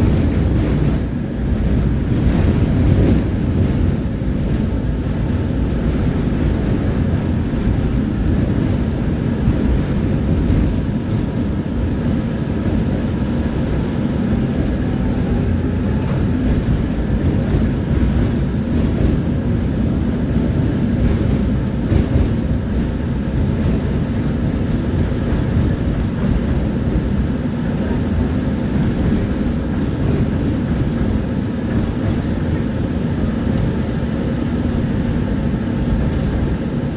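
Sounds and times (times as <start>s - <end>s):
tram wheels rumbling on rails: 0.0s - 36.9s.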